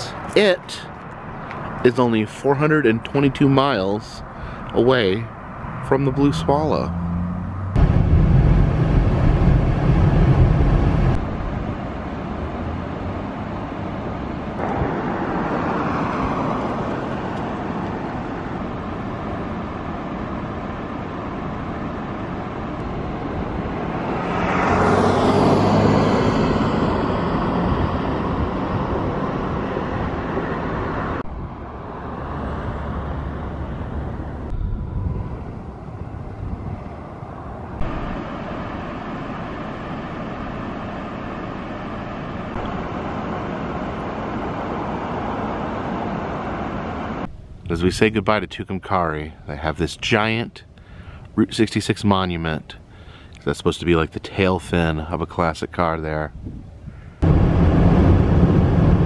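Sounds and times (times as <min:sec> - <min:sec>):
vehicle passing close: 0:00.0 - 0:47.8
highway traffic passing: 0:00.0 - 0:59.0.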